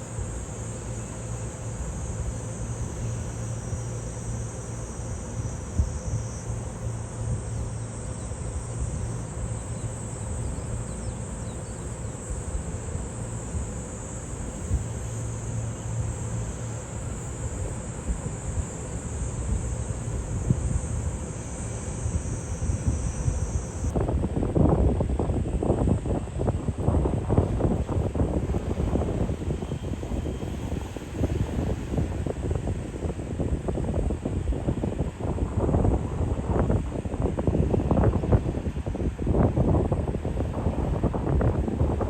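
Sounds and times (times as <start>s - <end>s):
high insect drone: 0.0s - 42.0s
wind gusts on microphone: 5.2s - 42.0s.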